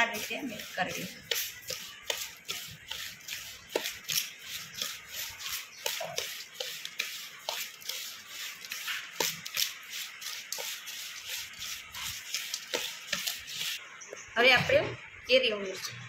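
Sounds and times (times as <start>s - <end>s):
spoon scraping dry spice mix: 0.0s - 13.8s.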